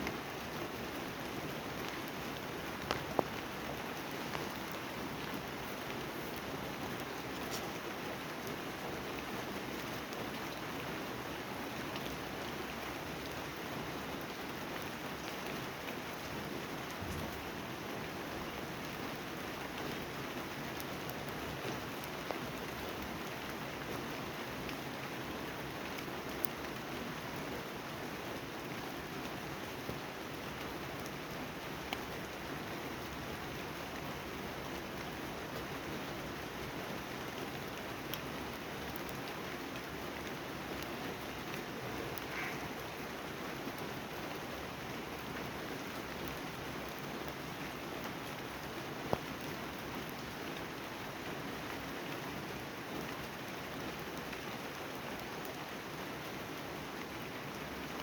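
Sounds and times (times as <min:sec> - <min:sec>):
close raindrops striking: 0:00.0 - 0:58.0
steady rain hiss: 0:00.0 - 0:58.0.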